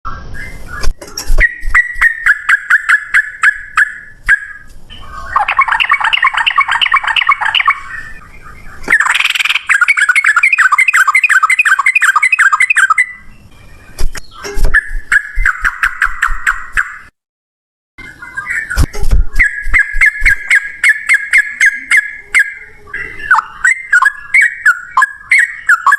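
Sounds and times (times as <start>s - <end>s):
bird singing rolling runs: 0.1s - 17.1s, 18.0s - 25.9s.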